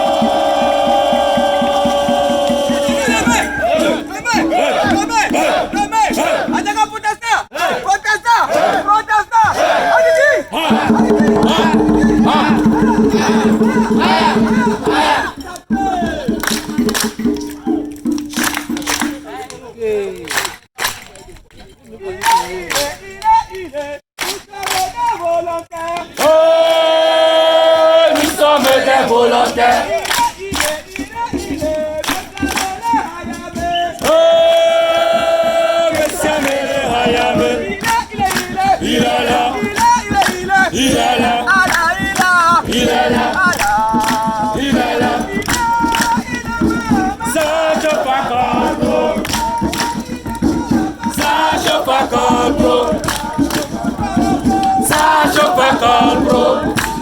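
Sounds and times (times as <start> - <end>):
group singing and chanting: 0.0 - 20.0, 22.0 - 57.0
people clapping: 8.5 - 57.0.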